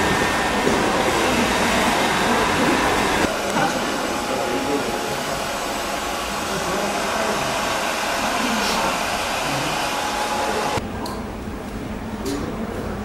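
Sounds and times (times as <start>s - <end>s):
hair dryer blowing: 0.0s - 10.8s.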